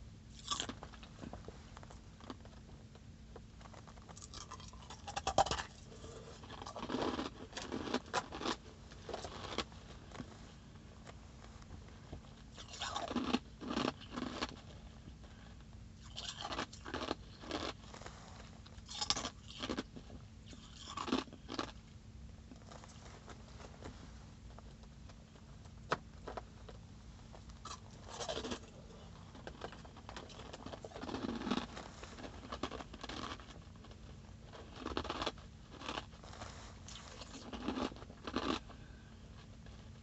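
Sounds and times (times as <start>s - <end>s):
ice crunching while chewed: 0.3s - 2.7s, 3.6s - 11.2s, 12.1s - 21.8s, 27.4s - 40.0s.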